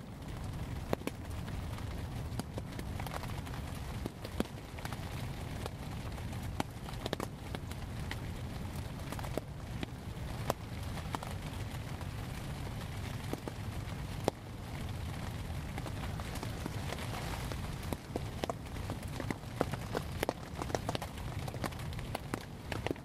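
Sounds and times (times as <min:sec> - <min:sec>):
raindrops tapping on fabric: 0:00.0 - 0:23.0
wind in trees: 0:00.0 - 0:23.0.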